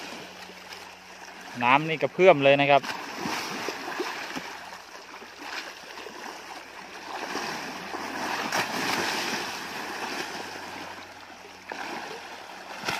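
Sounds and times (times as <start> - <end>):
water splashing and churning: 0.0 - 12.9.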